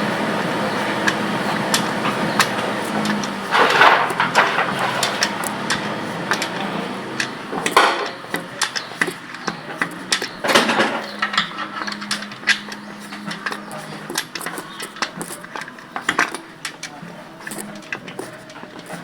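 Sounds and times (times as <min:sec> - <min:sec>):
hand tools clinking on metal: 0:00.0 - 0:19.0
metal rattling: 0:00.0 - 0:19.0.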